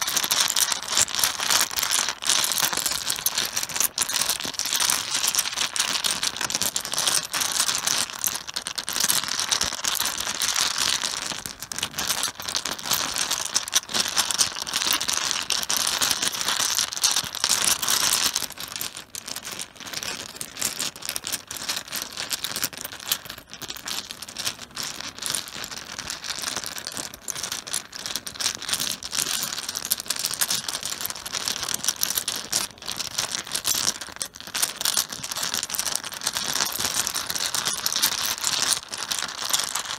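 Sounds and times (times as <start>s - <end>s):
mahjong tiles clattering on cloth: 0.0s - 39.9s.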